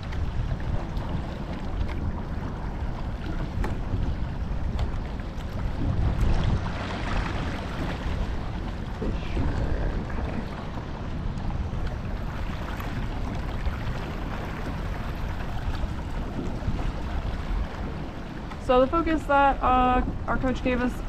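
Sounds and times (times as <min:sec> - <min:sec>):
oar strokes: 0:00.0 - 0:19.2
water washing along hull: 0:00.0 - 0:21.0
wind rumbling on microphone: 0:00.0 - 0:21.0.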